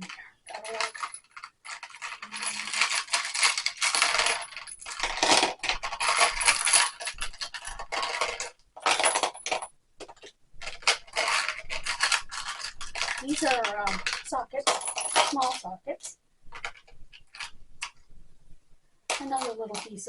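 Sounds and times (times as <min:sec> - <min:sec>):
metal tools clinking: 0:00.0 - 0:18.0, 0:19.1 - 0:20.0.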